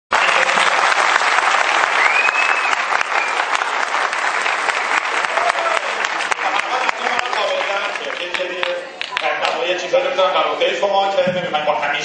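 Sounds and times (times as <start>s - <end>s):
audience applauding: 0.1s - 9.9s.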